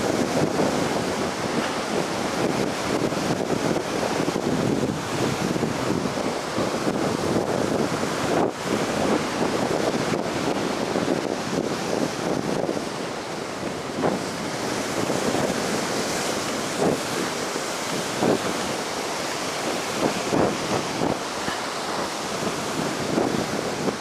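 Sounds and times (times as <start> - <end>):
heavy ocean surf: 0.0 - 24.0
wind buffeting microphone: 0.0 - 24.0.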